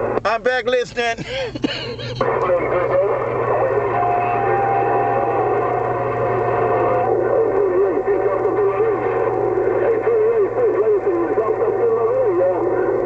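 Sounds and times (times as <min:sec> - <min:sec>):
radio band noise with warbling tone: 0:00.0 - 0:13.0
steady low hum: 0:00.0 - 0:13.0.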